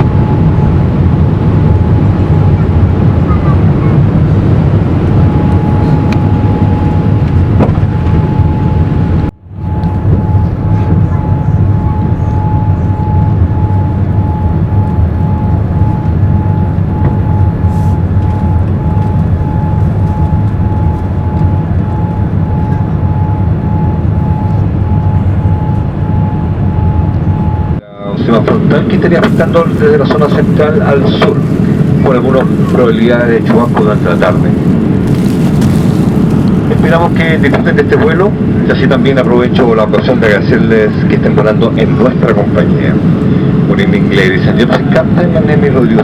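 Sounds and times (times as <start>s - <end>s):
jet engine roar in cabin: 0.0s - 46.0s
thin whine: 0.0s - 46.0s.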